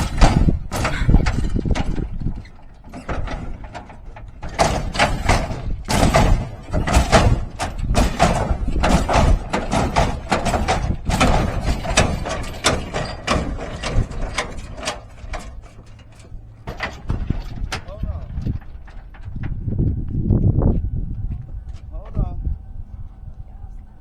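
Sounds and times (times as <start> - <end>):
car bouncing and slamming down: 0.0 - 20.5.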